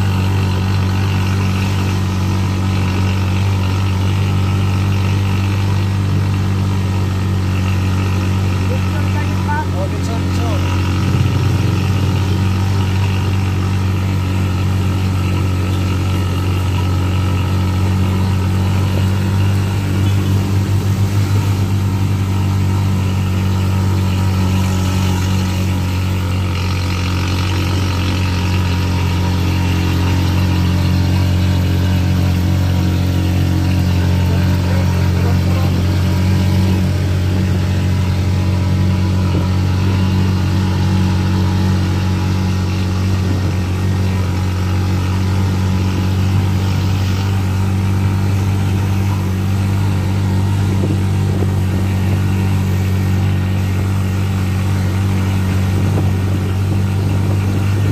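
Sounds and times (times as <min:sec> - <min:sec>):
motorcycle engine droning: 0:00.0 - 0:57.9
road noise: 0:00.0 - 0:57.9.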